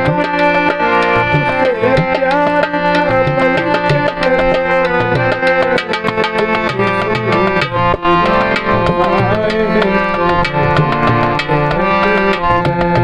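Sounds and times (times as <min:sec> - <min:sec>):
sustained melodic instrument: 0:00.0 - 0:13.0.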